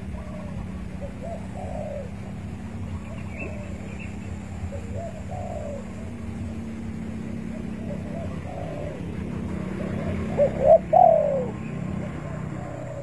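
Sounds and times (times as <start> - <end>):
dove cooing: 0.0 - 13.0
steady low hum: 0.0 - 13.0.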